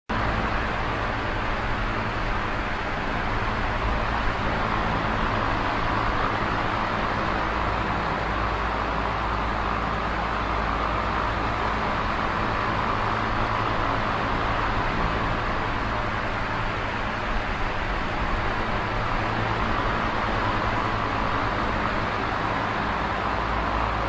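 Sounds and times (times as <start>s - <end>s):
electric fan air rush: 0.1s - 24.0s
low motor hum: 0.1s - 24.0s.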